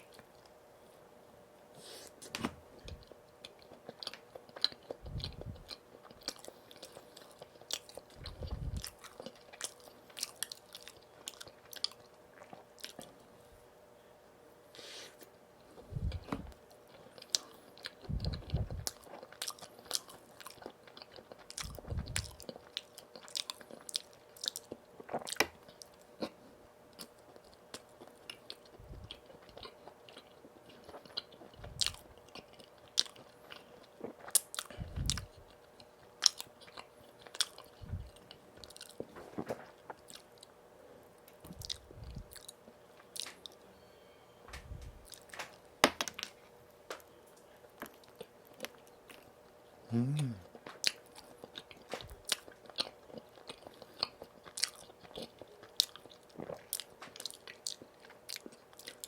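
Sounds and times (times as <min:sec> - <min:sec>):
faint steady hum: 0:00.0 - 0:59.0
eating and chewing: 0:01.8 - 0:13.7, 0:14.7 - 0:43.7, 0:44.5 - 0:59.0.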